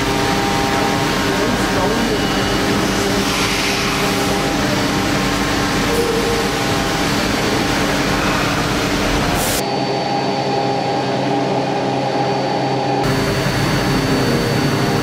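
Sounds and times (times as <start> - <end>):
steady high whine: 0.0 - 15.0.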